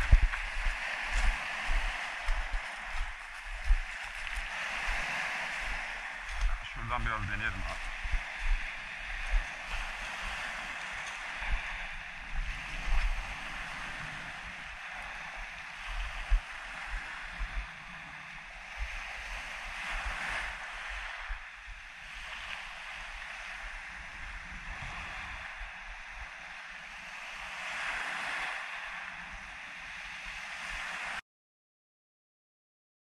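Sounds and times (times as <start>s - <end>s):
wind buffeting microphone: 0.0s - 28.6s
waves washing on pebble shore: 0.0s - 31.2s.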